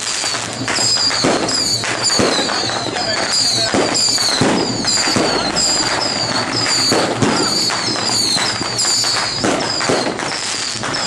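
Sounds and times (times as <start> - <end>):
firecrackers popping: 0.0 - 11.0
high falling chirp: 0.8 - 11.0.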